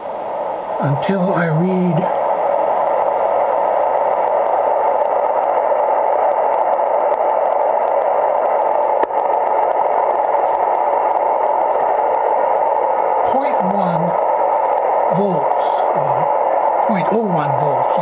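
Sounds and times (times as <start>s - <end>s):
radio receiver hiss: 0.0s - 18.0s.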